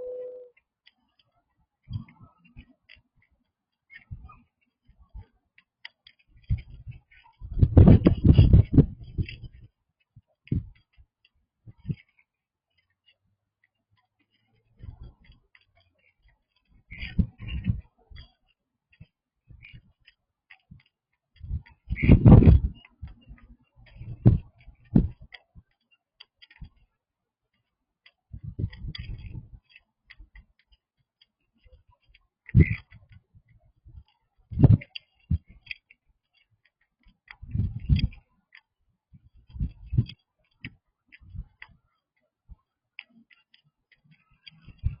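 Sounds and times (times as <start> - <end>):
small pet chewing: 0.8 - 45.0.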